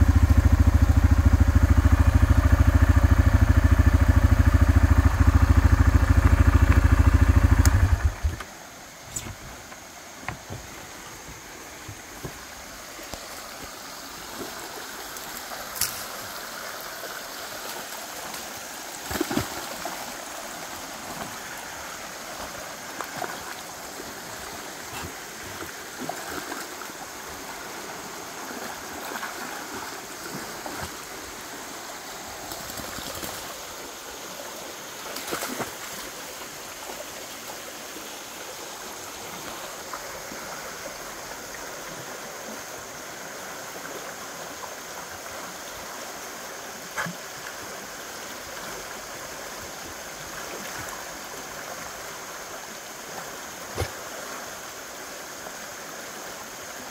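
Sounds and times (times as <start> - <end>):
creek rushing: 0.0 - 56.9.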